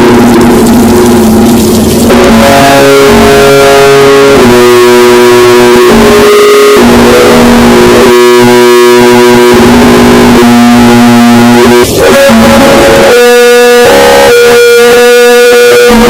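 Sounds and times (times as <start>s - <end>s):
emergency alert alarm tone: 0.0s - 16.0s.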